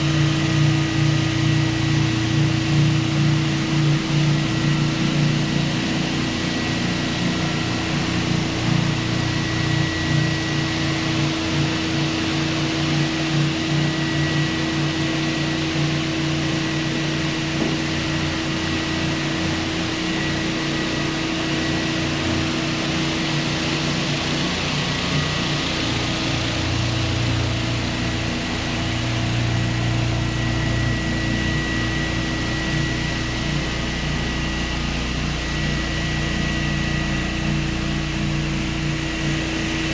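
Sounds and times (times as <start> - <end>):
floor sander humming and whining: 0.0 - 39.9.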